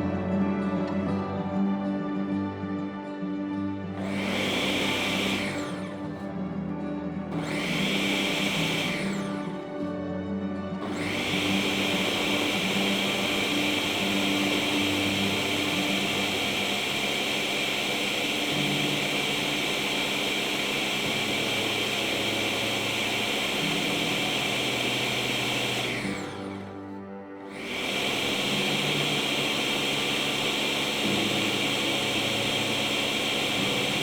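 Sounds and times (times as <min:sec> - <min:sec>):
food processor motor whirring: 0:00.0 - 0:00.3, 0:03.9 - 0:34.0
background music: 0:00.0 - 0:34.0.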